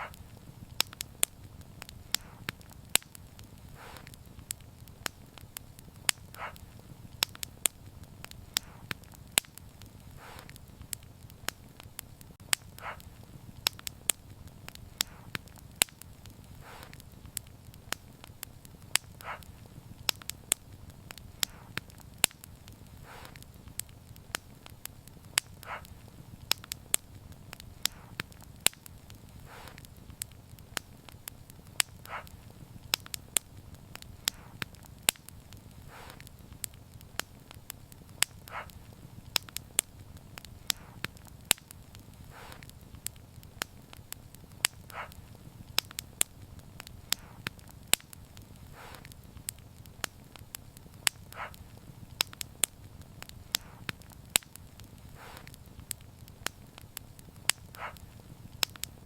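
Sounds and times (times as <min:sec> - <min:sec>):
low rumble of flames: 0:00.0 - 0:59.0
wood fire pops and snaps: 0:00.0 - 0:59.0.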